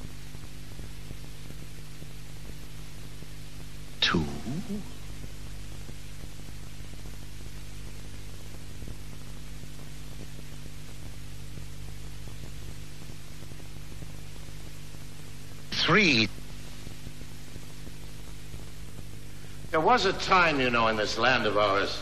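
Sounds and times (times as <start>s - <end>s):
electrical hum: 0.0s - 22.0s
recording hiss: 0.0s - 22.0s.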